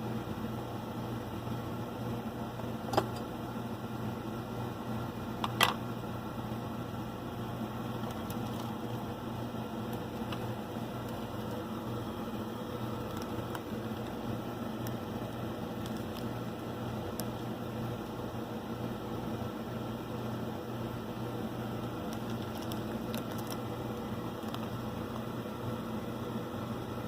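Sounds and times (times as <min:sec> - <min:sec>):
machine hum with hiss: 0:00.0 - 0:27.0.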